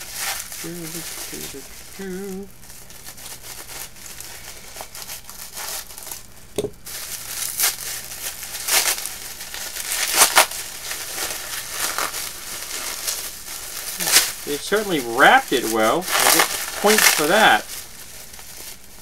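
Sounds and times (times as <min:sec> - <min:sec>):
wrapping paper tearing and crumpling: 0:00.0 - 0:19.0.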